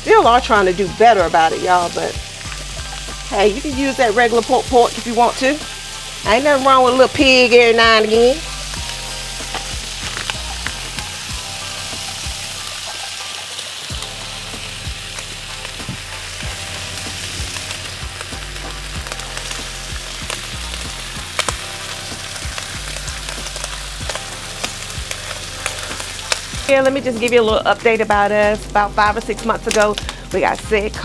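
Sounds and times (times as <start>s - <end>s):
food sizzling on griddle: 0.0s - 31.0s.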